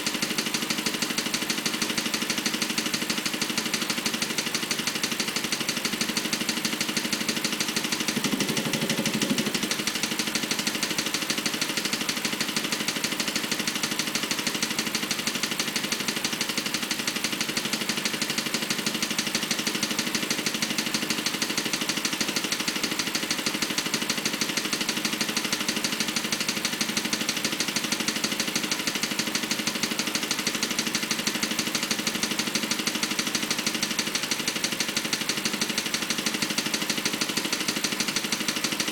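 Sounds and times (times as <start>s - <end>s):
car engine idling: 0.0s - 38.9s
fast regular clicking: 0.1s - 38.9s.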